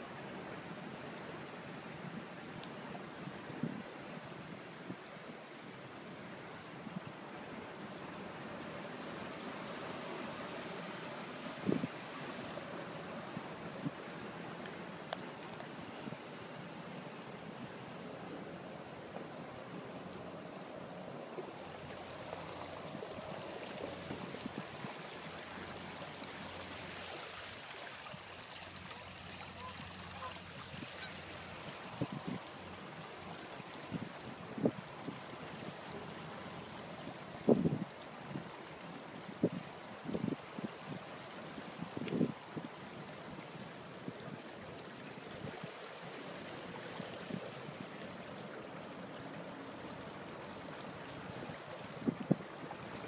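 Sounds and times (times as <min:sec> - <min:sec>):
water splashing along hull: 0:00.0 - 0:53.0.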